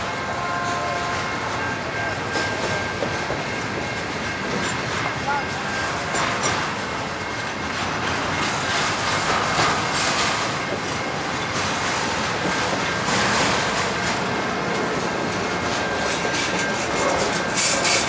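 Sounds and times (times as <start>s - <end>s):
train wheels clattering over rails: 0.0s - 18.0s.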